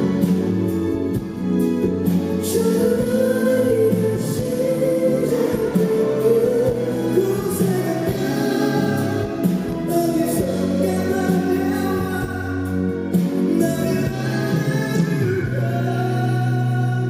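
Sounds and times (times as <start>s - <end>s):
live band playing: 0.0s - 17.0s
person singing: 2.3s - 17.0s.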